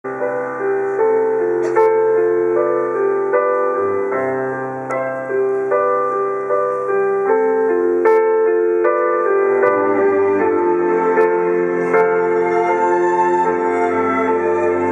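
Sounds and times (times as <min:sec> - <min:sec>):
slow gentle piano melody: 0:00.0 - 0:14.9.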